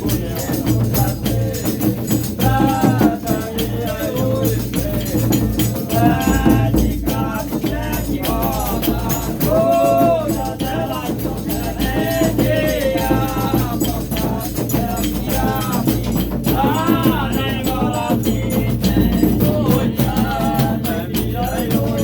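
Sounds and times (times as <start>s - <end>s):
shaken rattles: 0.0s - 22.0s
steady percussion: 0.0s - 22.0s
voices singing short phrases: 0.0s - 22.0s.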